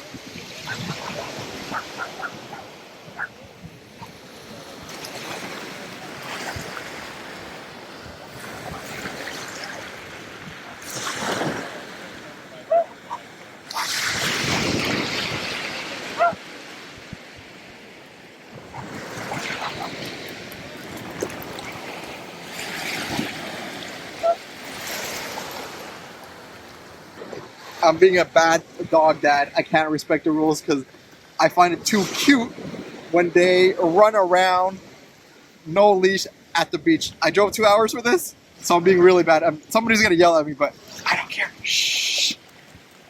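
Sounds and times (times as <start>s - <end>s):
small waves breaking on shore: 0.0s - 43.0s
surf wash: 0.0s - 43.0s
wind: 0.0s - 43.0s.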